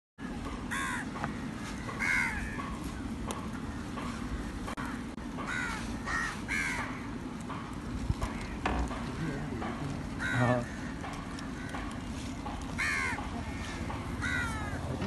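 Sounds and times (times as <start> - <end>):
crows cawing: 0.2 - 15.0.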